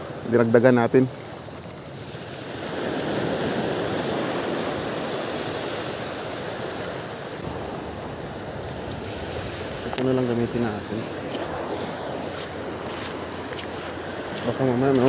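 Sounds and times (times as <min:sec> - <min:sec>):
waves washing on pebbles: 0:00.0 - 0:15.0.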